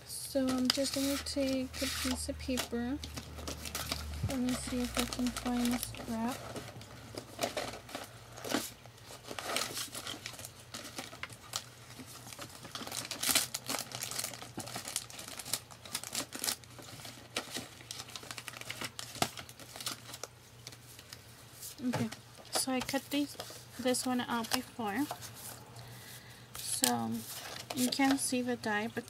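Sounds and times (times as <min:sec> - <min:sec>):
paper rustling and crinkling: 0:00.4 - 0:29.0.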